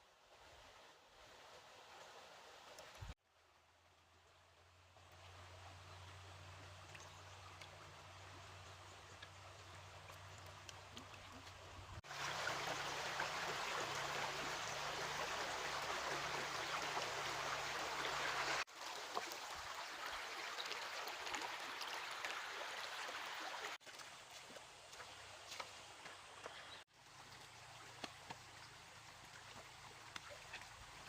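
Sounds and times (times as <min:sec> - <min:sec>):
stream water rushing: 0:00.2 - 0:03.2, 0:04.9 - 0:31.0.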